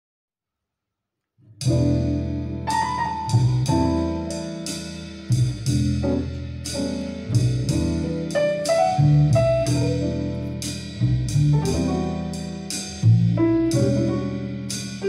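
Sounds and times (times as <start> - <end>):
piano music over bass: 1.6 - 15.0.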